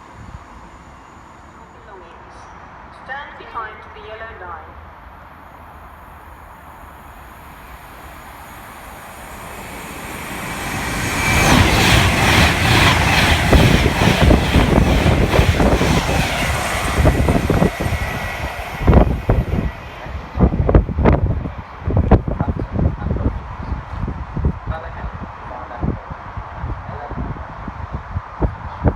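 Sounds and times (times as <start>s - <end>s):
train passing at speed: 0.0s - 28.9s.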